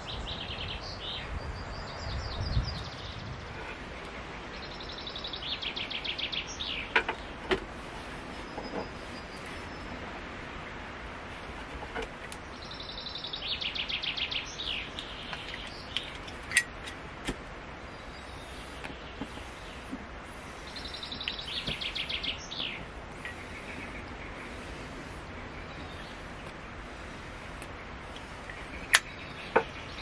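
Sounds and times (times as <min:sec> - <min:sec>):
outdoor hiss: 0:00.0 - 0:30.0
songbird singing: 0:00.0 - 0:30.0.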